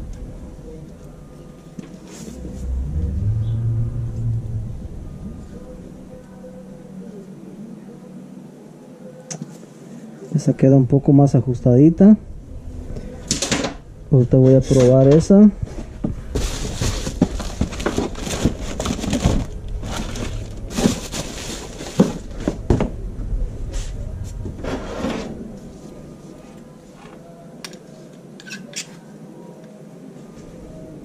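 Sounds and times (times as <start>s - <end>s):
low hum: 0.0s - 9.2s, 10.8s - 27.6s.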